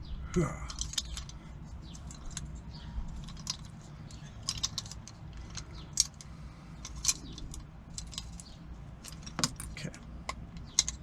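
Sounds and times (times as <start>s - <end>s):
low steady rumble: 0.0s - 11.0s
lock picks clicking and scraping: 0.5s - 11.0s.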